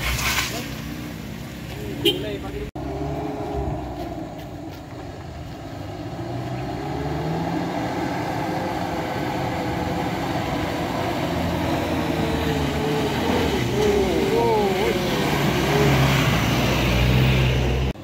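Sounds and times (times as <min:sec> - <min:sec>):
heavy vehicle engine rumbling: 0:00.0 - 0:18.0.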